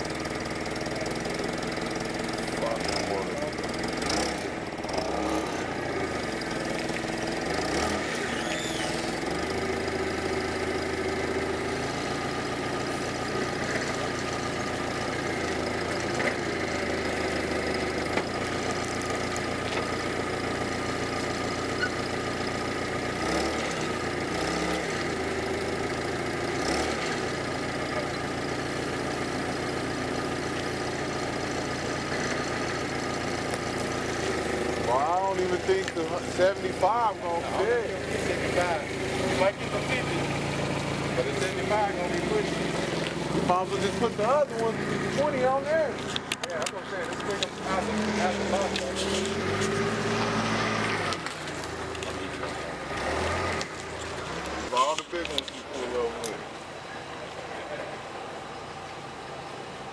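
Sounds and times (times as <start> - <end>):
forklift engine idling: 0.0 - 59.9.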